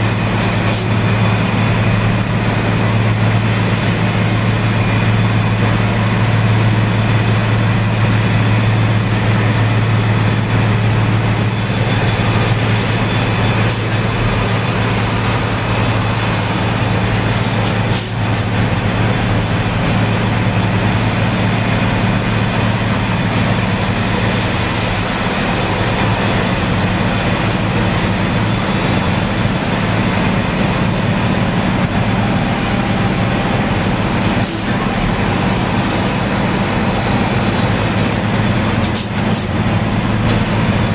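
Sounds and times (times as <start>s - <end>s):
asphalt milling machine working: 0.0s - 40.9s.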